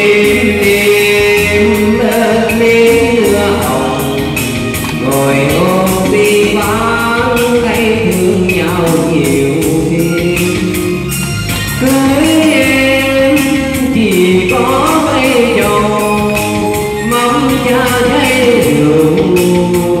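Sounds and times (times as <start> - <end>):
backing track with steady beat: 0.0 - 20.0
man singing into a microphone: 0.0 - 20.0.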